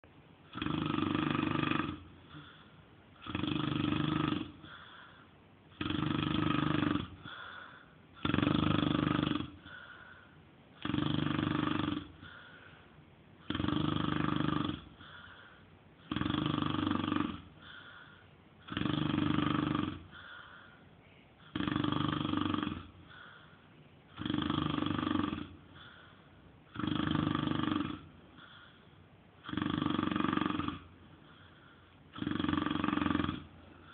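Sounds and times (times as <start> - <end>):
quiet breathing: 0.0 - 33.9
man snoring: 0.5 - 12.6, 13.4 - 20.6, 21.4 - 28.8, 29.4 - 33.9.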